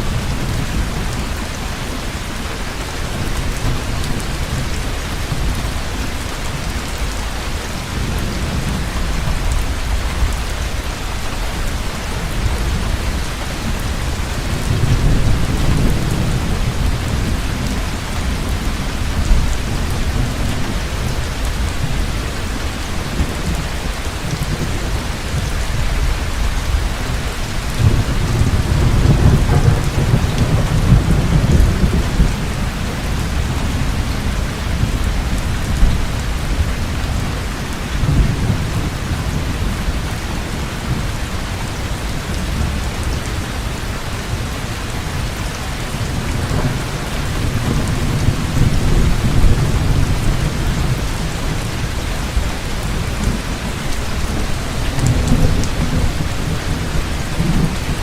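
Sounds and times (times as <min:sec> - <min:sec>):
heavy rain pouring: 0:00.0 - 0:58.0
thunder rumbling: 0:00.0 - 0:58.0.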